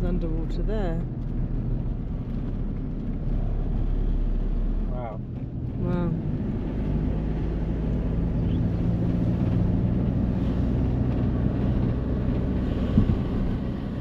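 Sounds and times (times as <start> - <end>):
van engine and road noise: 0.0 - 14.0.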